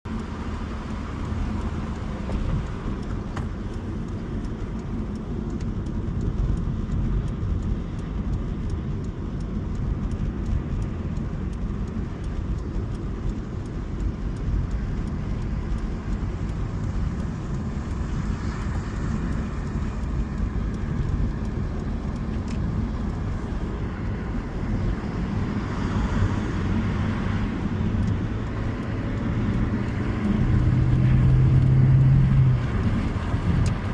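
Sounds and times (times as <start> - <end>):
car engine cruising: 0.0 - 33.9
tyre and road rumble: 0.1 - 33.9.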